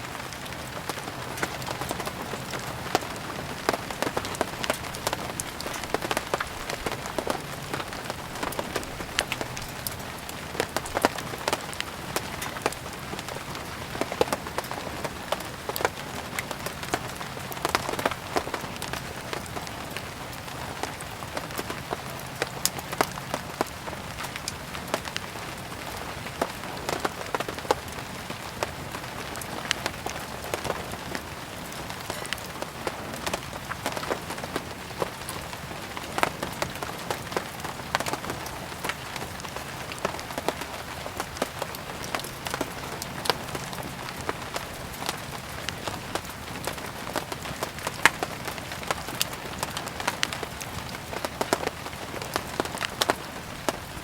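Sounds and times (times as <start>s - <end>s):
steady rain falling: 0.0s - 54.0s
firewood crackling and popping: 0.1s - 54.0s.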